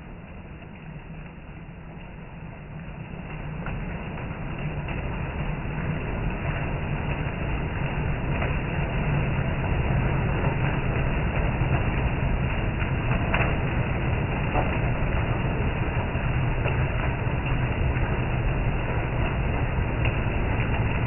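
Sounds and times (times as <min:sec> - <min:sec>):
heavy rain on corrugated awning: 0:00.0 - 0:21.0.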